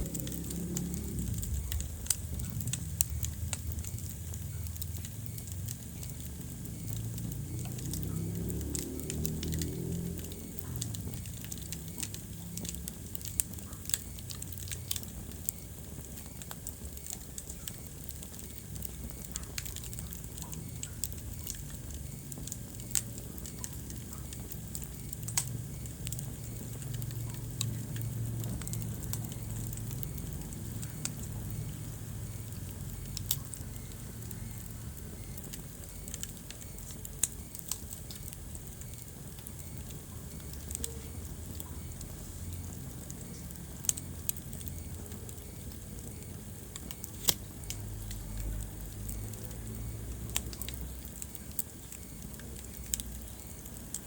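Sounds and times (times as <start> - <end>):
low rumble of flames: 0.0 - 54.0
sharp pops of fire: 0.0 - 54.0
wood fire crackling: 0.0 - 54.0.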